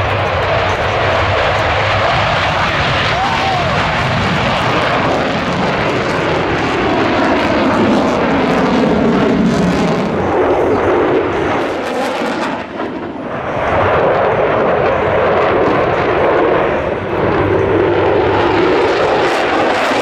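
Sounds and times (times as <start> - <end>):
fighter jet engine roar: 0.0 - 20.0.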